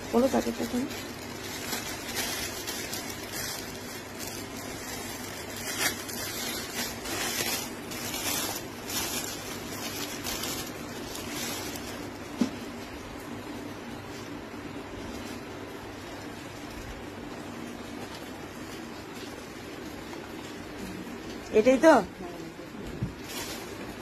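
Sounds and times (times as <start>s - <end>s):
plastic packaging crinkling: 0.0s - 21.7s, 23.0s - 24.0s.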